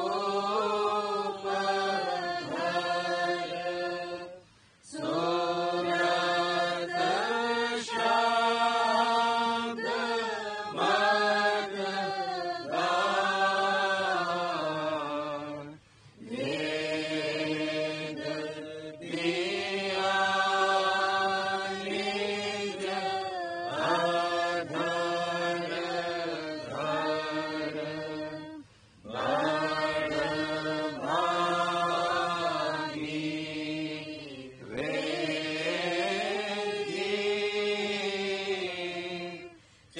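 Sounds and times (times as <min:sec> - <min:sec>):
devotional chanting: 0:00.0 - 0:39.9.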